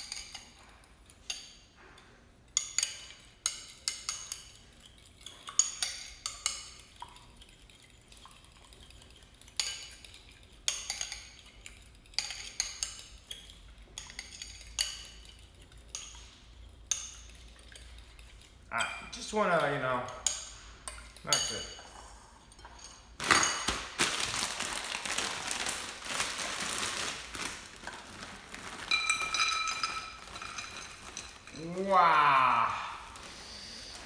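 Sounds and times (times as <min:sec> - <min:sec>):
utensils clinking against dishes: 0:00.0 - 0:34.0.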